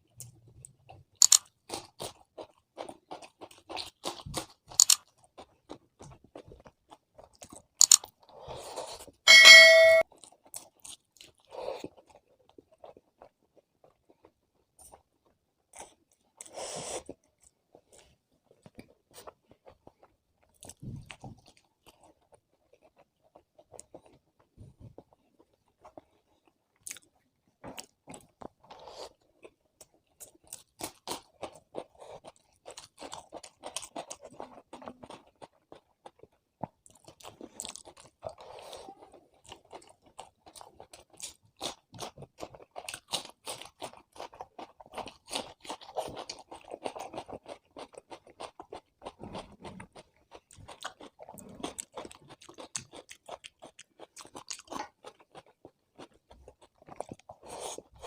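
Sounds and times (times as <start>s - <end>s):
chewing and crunching food: 0.0s - 9.2s, 10.0s - 58.0s.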